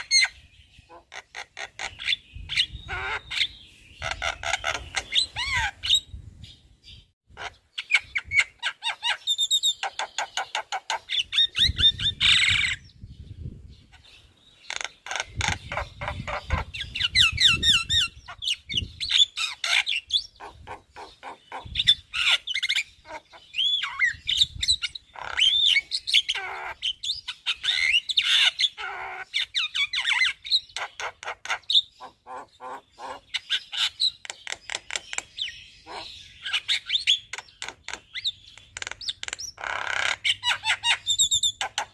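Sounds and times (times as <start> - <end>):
myna bird singing: 0.0 - 41.9.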